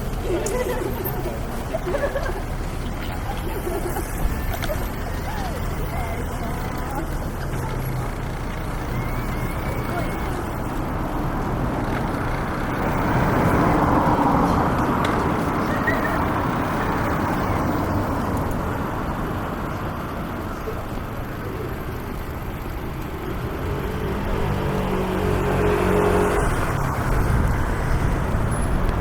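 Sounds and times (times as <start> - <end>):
city street traffic: 0.0 - 29.0
vehicle passing close: 0.0 - 29.0.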